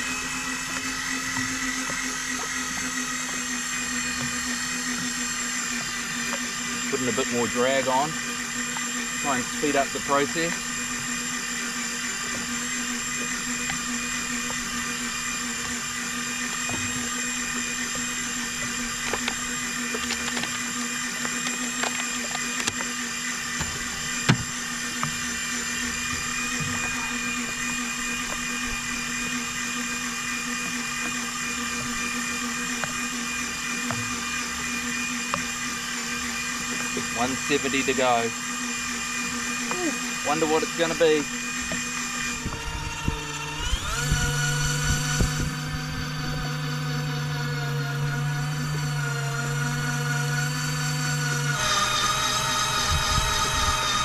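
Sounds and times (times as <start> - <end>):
fishing reel motor whining: 0.0 - 54.0.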